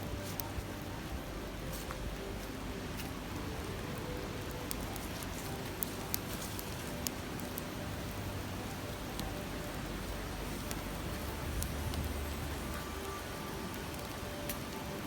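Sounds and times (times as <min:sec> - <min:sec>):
campfire crackling: 0:00.0 - 0:15.0
river rushing over rocks: 0:00.0 - 0:15.0.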